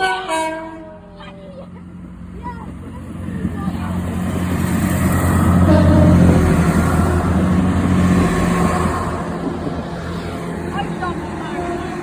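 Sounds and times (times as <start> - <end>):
passing vehicle engine hum: 0.6 - 12.0.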